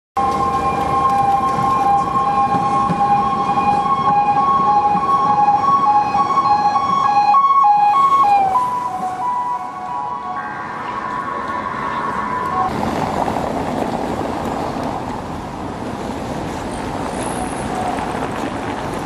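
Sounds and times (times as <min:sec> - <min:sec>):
tram two-tone whine: 0:00.2 - 0:15.9, 0:16.6 - 0:19.0
wheels rumbling on rails: 0:00.2 - 0:19.0.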